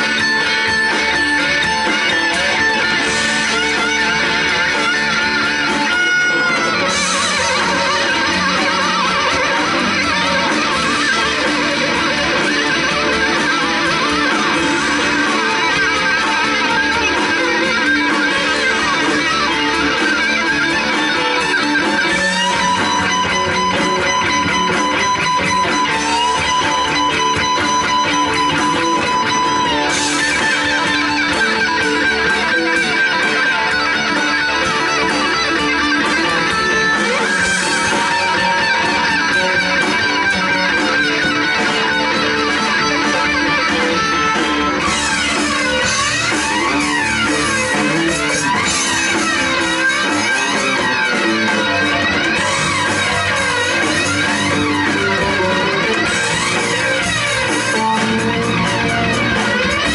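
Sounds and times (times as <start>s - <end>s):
bass guitar: 0.0s - 59.9s
drums: 0.0s - 59.9s
electric guitar sustained notes: 0.0s - 59.9s.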